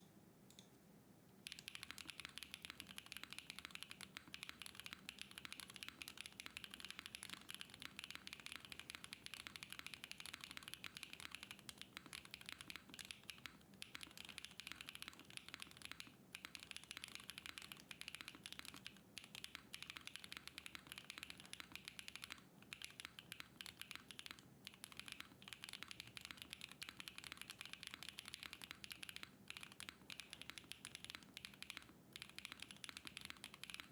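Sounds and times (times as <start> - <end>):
fast mechanical keyboard typing: 1.4 - 33.9.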